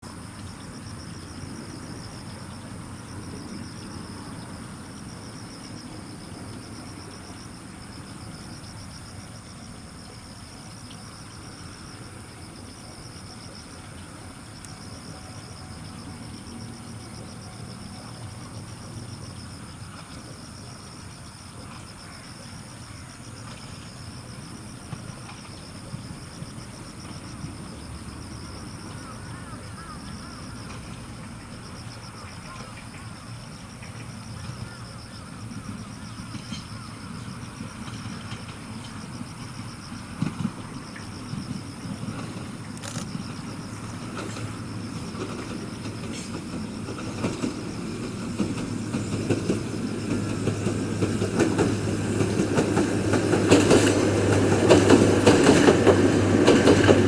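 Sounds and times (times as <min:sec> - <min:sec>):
insects pulsing trill: 0:00.0 - 0:57.0
high steady insect buzz: 0:00.1 - 0:57.0.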